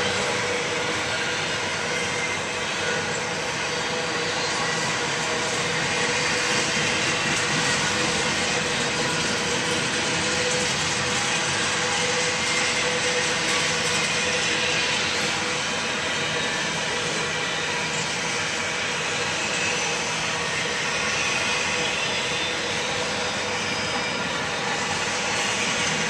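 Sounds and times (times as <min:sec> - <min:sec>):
train wheels rushing on rails: 0:00.0 - 0:26.0.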